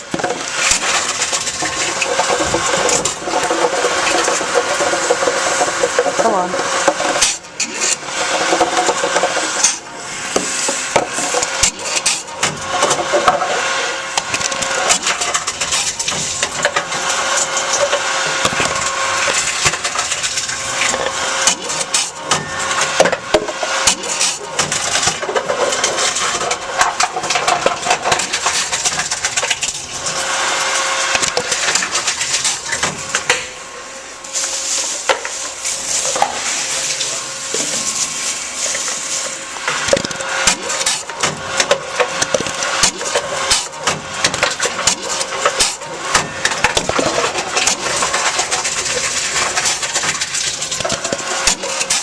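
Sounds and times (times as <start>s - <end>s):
bottles crushed cracking: 0.0s - 13.5s, 14.1s - 33.6s, 34.3s - 52.0s
machine hum: 0.0s - 52.0s.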